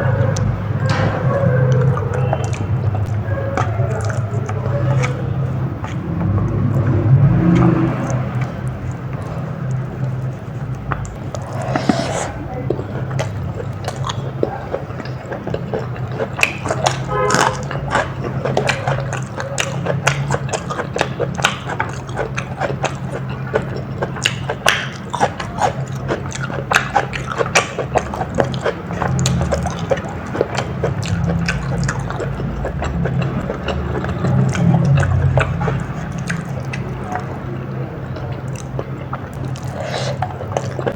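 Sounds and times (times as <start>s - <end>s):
wet chewing and mouth sounds: 0.0s - 40.9s.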